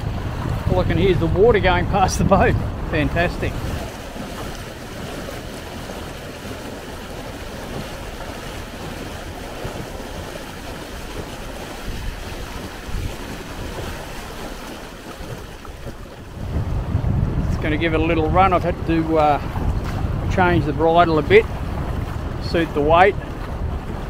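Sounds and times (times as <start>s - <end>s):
water rushing past boat hull: 0.0s - 24.0s
wind buffeting microphone: 0.0s - 24.0s.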